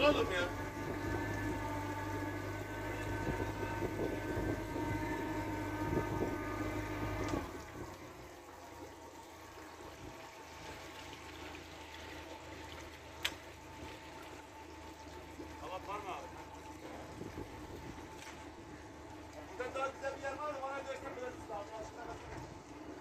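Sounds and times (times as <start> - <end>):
outboard motor idling: 0.0 - 23.0
soft water sounds: 0.0 - 23.0.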